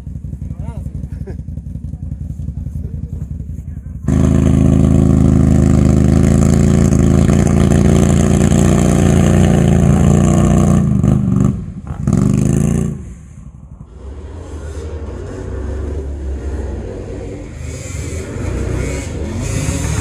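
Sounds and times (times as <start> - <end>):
quad bike engine under load: 0.0 - 13.2, 13.9 - 20.0.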